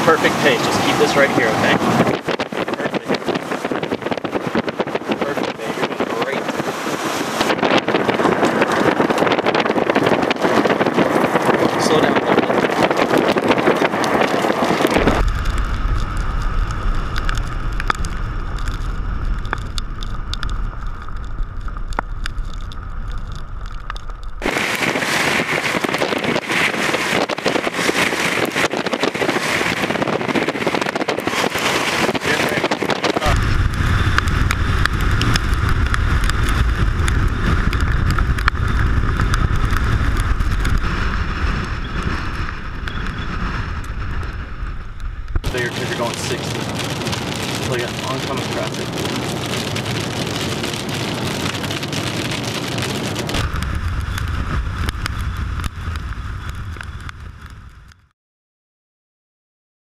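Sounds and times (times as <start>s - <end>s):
hiss of wind and rain: 0.0s - 58.0s
low road rumble: 0.0s - 58.1s
wind blasting over microphone: 0.0s - 58.1s.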